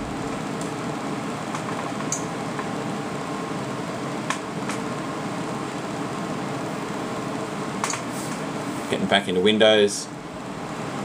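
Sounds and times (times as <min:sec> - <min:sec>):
computer fans whirring: 0:00.0 - 0:11.0.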